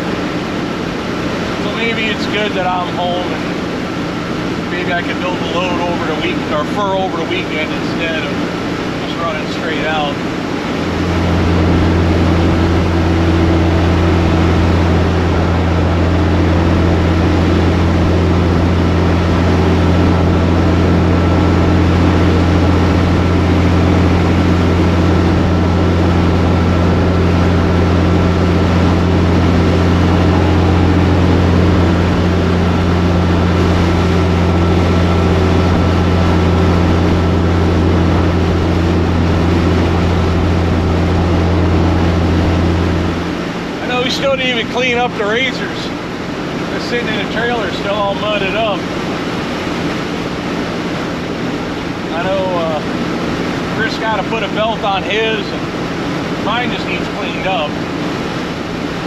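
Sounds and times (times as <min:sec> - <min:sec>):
road noise: 0:00.0 - 0:59.0
truck diesel engine drone: 0:00.0 - 0:59.0.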